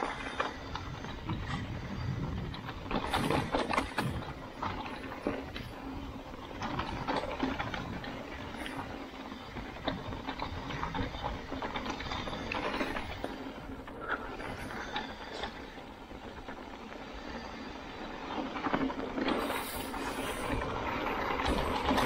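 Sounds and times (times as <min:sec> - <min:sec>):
bike rattling over ground: 0:00.0 - 0:22.0.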